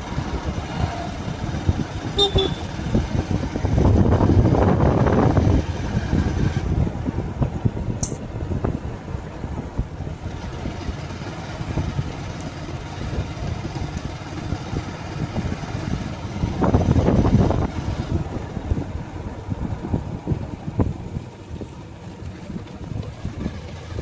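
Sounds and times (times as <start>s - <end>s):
wind noise on microphone: 0.0s - 12.2s, 13.0s - 24.0s
motorcycle engine rumble: 0.0s - 24.0s.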